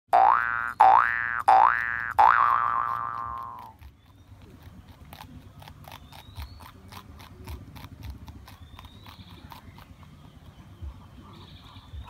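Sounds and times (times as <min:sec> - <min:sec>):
porcupine chewing leaf: 0:00.5 - 0:12.0.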